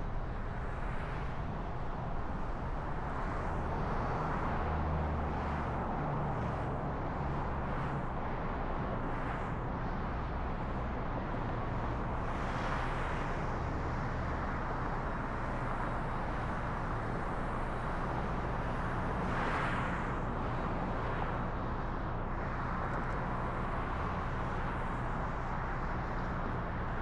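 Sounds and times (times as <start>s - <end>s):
car tyre road noise: 0.0s - 27.0s.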